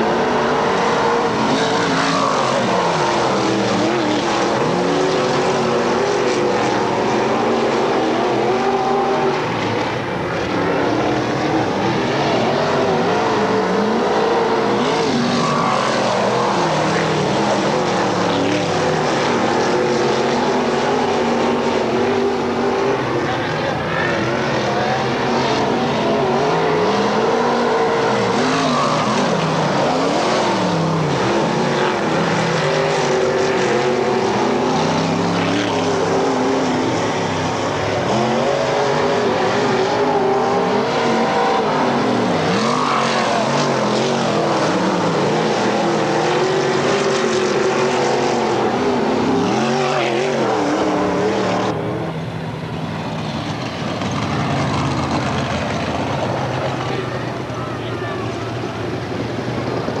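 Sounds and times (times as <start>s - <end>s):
race car engines: 0.0s - 60.0s.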